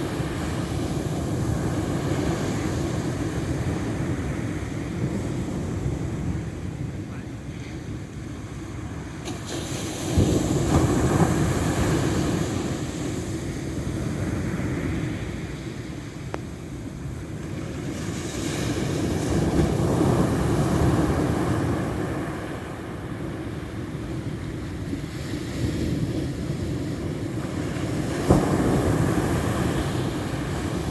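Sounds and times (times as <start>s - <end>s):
ocean waves breaking on shore: 0.0s - 30.9s.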